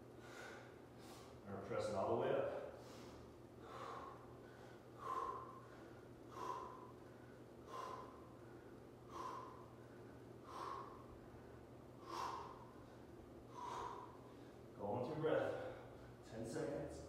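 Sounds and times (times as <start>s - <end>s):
man breathing hard: 0.0s - 1.4s, 2.5s - 16.3s
faint steady hum: 0.0s - 17.0s.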